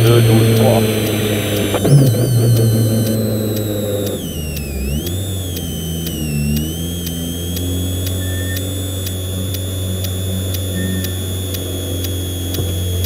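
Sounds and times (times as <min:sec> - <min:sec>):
car engine idling high: 0:00.0 - 0:13.0
faint regular ticking: 0:00.0 - 0:13.0
high whine: 0:00.0 - 0:13.0.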